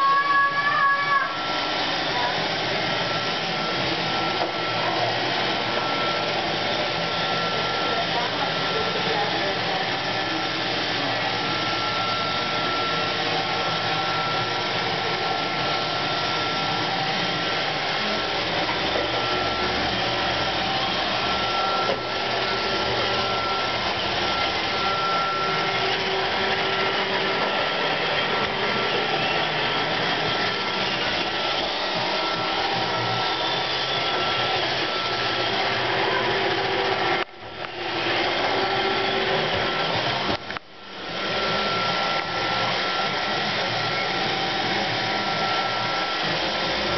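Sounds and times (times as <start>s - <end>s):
robot vacuum whirring: 0.0s - 46.9s.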